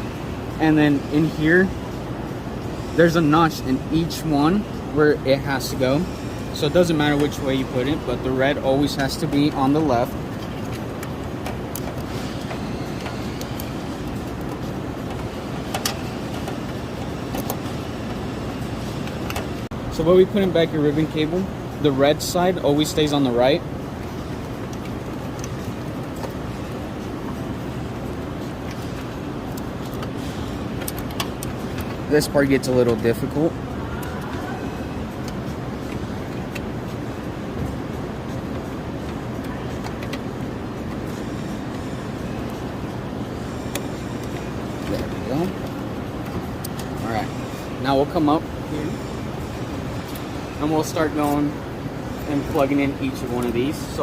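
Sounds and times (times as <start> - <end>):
steady machine noise: 0.0 - 54.0.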